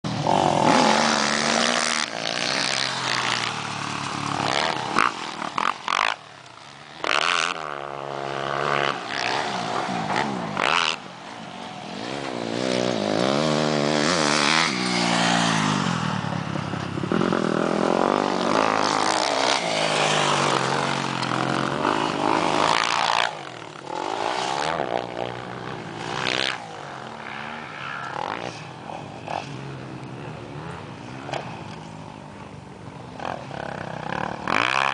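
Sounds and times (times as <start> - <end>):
motocross bike engines revving: 0.0 - 34.9.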